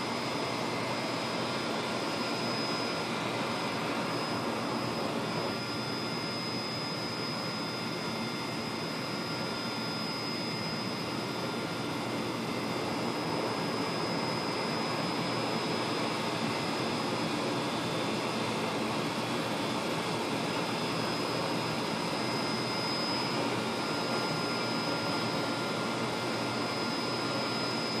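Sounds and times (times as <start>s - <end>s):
rushing air and machine noise: 0.0s - 28.0s.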